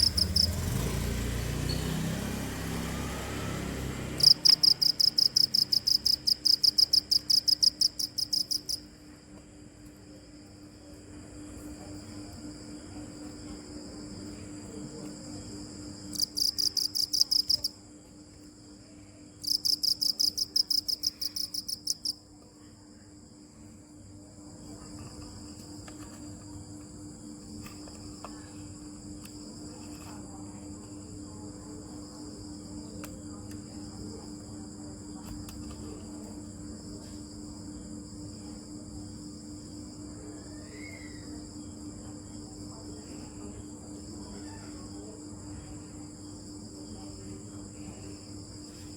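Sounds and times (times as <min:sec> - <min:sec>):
cricket chirping: 0:00.0 - 0:09.2, 0:09.8 - 0:48.9
insect chorus: 0:00.0 - 0:48.9.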